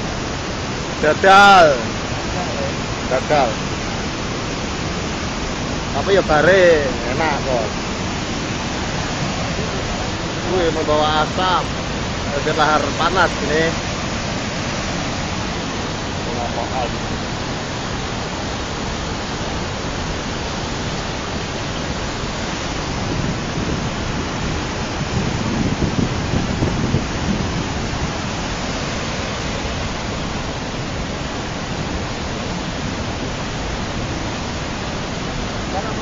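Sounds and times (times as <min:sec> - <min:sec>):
mudflow rushing: 0:00.0 - 0:36.0.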